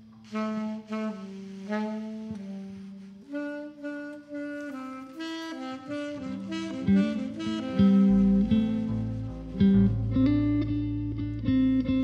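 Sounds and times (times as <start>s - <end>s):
saxophone melody: 0.0s - 11.3s
jazz fusion band: 0.0s - 12.0s.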